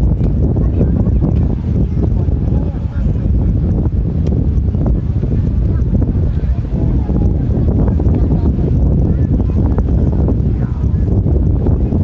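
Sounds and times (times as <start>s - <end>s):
faint voices of people: 0.0s - 12.0s
wind buffeting microphone: 0.0s - 12.0s.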